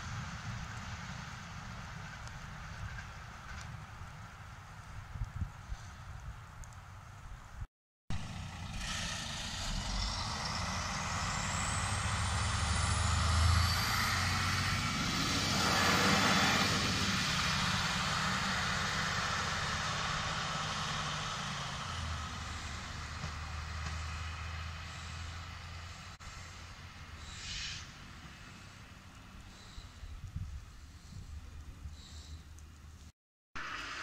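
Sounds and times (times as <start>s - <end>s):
diesel engine drone: 0.0s - 4.8s, 8.1s - 33.0s, 33.6s - 34.0s
wheel and rail noise: 0.0s - 34.0s.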